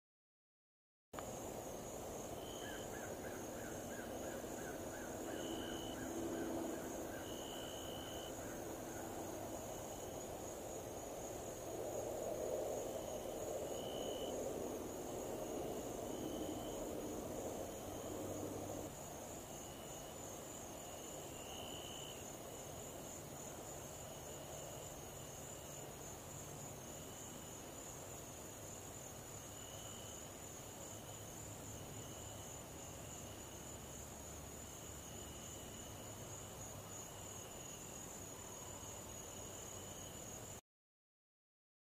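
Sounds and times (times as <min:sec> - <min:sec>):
high-pitched insect chorus: 0:01.2 - 0:40.6.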